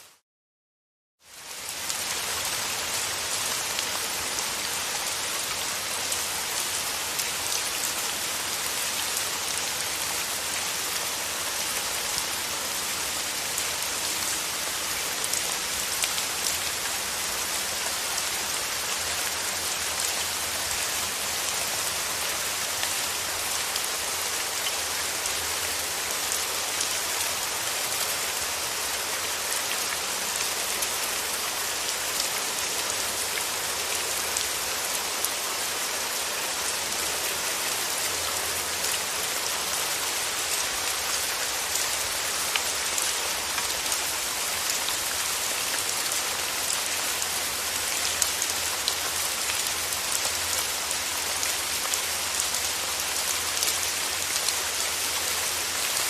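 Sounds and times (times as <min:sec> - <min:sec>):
steady rain falling: 0:00.0 - 0:00.2, 0:01.2 - 0:56.0.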